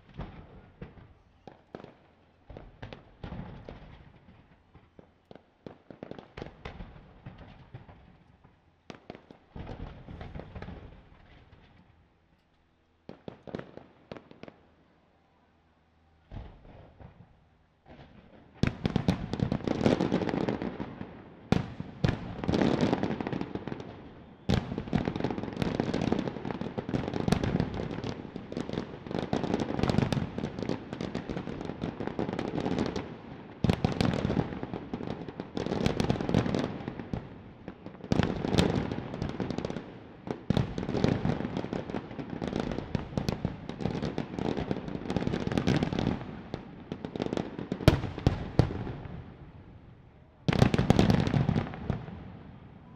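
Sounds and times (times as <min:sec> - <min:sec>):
fireworks crackling and popping: 0:00.0 - 0:12.0, 0:16.3 - 0:49.7, 0:50.5 - 0:52.4.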